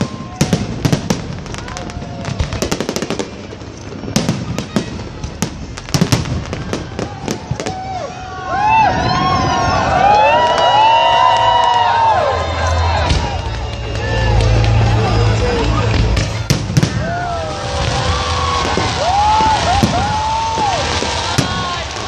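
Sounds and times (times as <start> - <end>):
crowd cheering and calling out: 0.0 - 22.0
fireworks bangs and crackles: 0.0 - 22.0.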